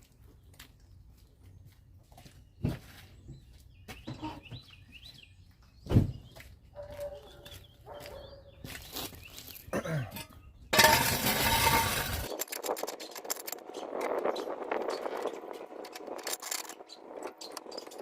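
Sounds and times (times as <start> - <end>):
birds chirping: 0.2 - 12.1, 12.9 - 18.0.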